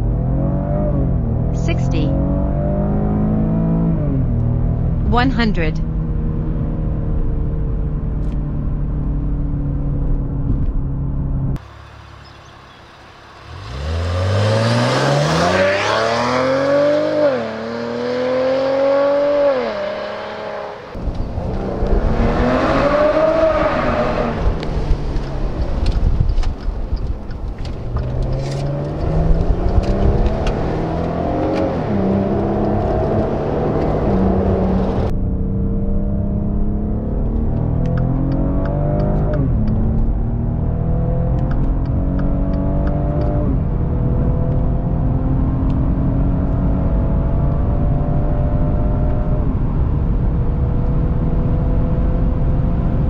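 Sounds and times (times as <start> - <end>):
car engine accelerating: 0.0 - 5.2, 5.8 - 53.0.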